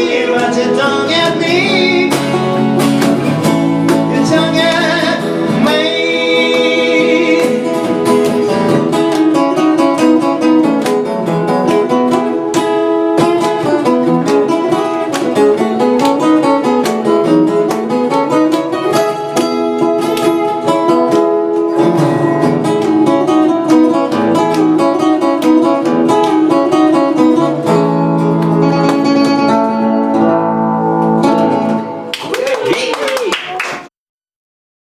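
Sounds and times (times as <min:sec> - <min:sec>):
guitars playing fast melody: 0:00.0 - 0:32.8.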